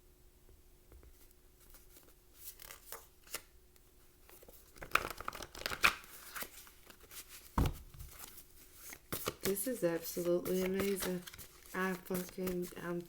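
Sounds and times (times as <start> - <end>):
cards rustling and snapping: 1.6 - 3.5, 4.2 - 13.0.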